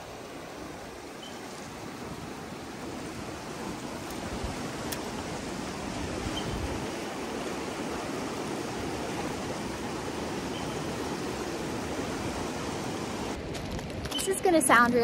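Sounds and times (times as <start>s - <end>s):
river rushing: 0.0s - 13.4s.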